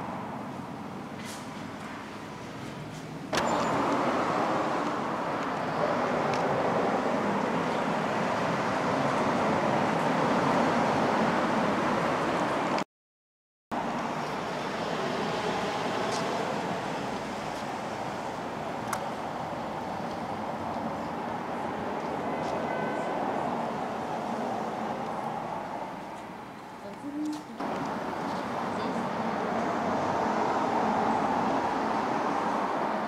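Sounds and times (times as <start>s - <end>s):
road traffic passing: 0.0s - 12.8s, 13.7s - 33.0s.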